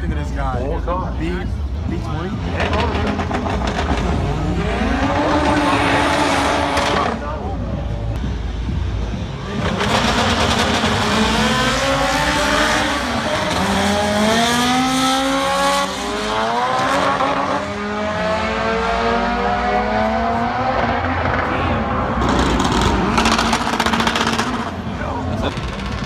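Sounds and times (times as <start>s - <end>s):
race car engine revving hard: 2.3s - 7.4s, 9.4s - 26.0s.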